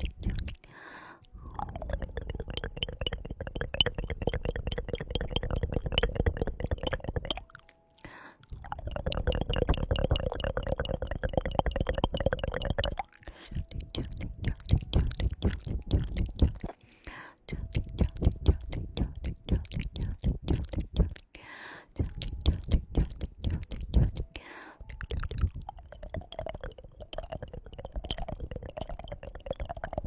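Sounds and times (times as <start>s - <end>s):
tongue clicking: 0.0s - 7.8s, 8.4s - 21.4s, 22.0s - 30.0s.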